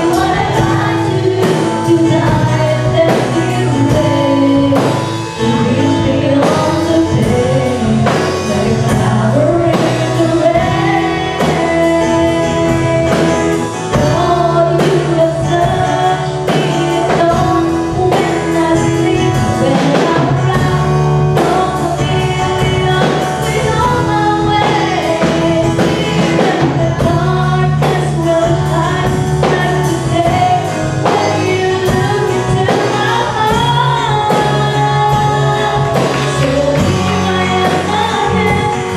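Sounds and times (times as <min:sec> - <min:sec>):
band with steady beat: 0:00.0 - 0:38.9
person singing: 0:00.0 - 0:38.9.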